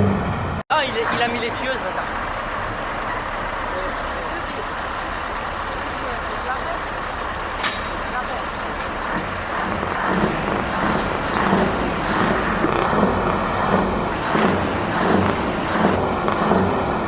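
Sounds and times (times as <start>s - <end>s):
truck engine through straight-piped exhaust: 0.0s - 17.0s.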